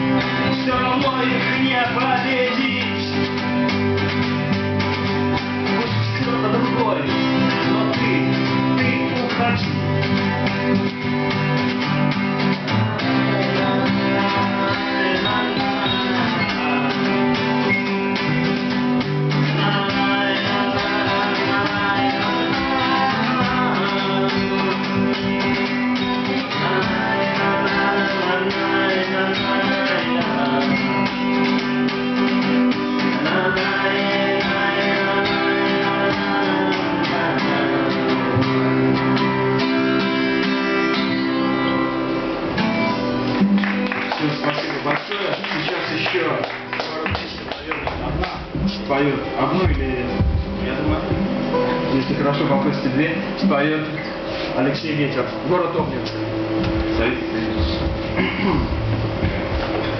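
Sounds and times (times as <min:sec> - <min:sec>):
acoustic guitars playing chords: 0:00.0 - 0:59.9.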